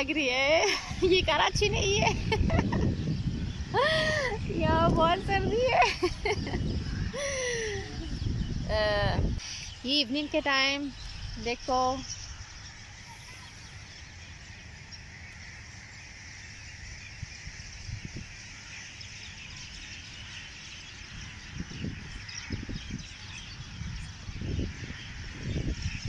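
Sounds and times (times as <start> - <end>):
birds chirping in chorus: 0.0 - 26.0.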